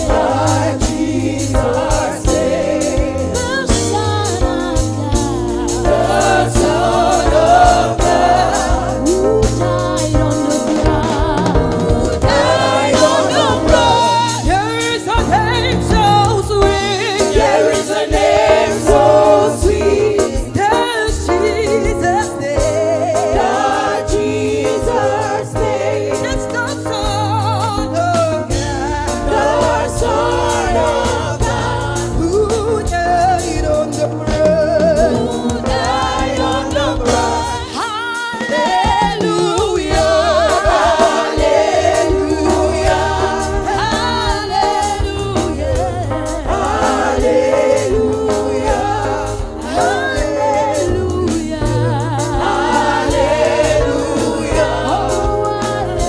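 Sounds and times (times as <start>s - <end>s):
bass line: 0.0s - 37.8s, 39.6s - 56.0s
drums: 0.0s - 56.0s
voices singing together: 0.0s - 56.0s.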